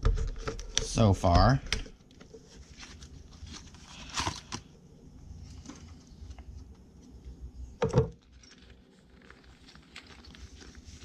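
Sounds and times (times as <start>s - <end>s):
cardboard and plastic rustling: 0.0s - 4.7s, 5.4s - 11.0s.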